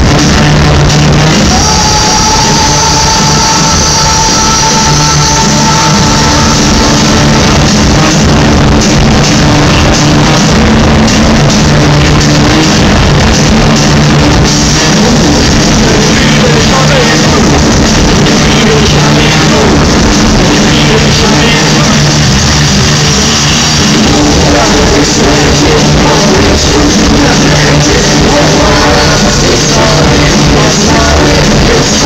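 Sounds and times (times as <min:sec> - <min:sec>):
live rock band: 0:00.0 - 0:32.0.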